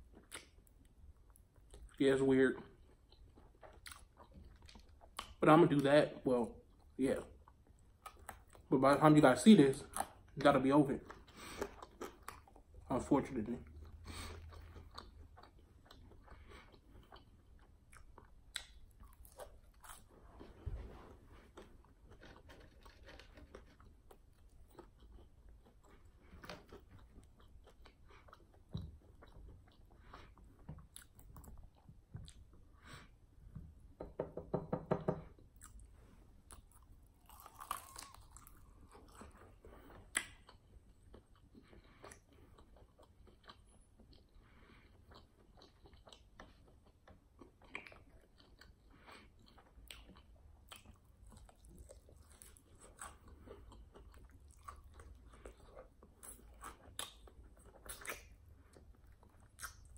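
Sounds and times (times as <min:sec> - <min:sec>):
chewing and smacking: 0:00.0 - 0:05.9, 0:06.6 - 0:09.0, 0:09.7 - 0:32.8, 0:35.3 - 0:59.9.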